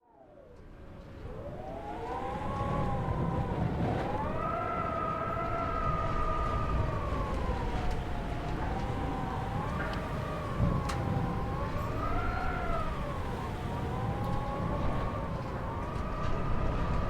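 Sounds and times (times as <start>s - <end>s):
wind howling and whistling: 0.0s - 17.0s
low rumbling gusts: 0.2s - 17.0s.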